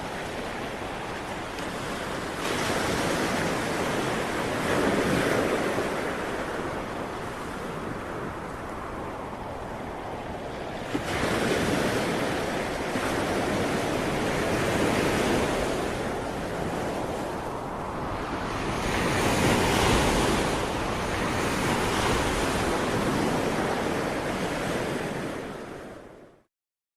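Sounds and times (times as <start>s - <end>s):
ocean waves washing ashore: 0.0s - 26.5s.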